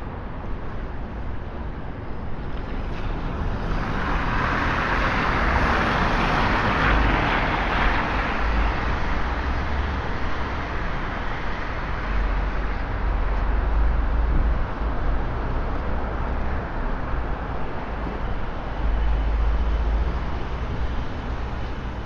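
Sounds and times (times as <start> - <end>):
low rumble of engines: 0.0 - 22.0.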